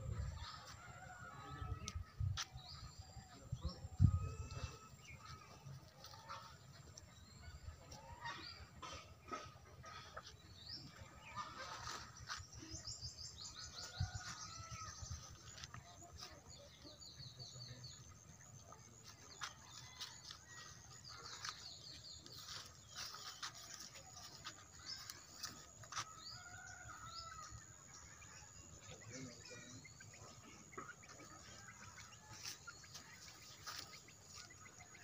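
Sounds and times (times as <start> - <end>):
small birds chirping: 1.8 - 35.0.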